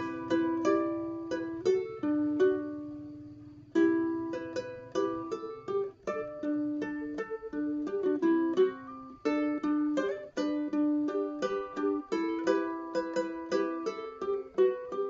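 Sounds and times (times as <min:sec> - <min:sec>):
ukulele melody: 0:00.0 - 0:15.0.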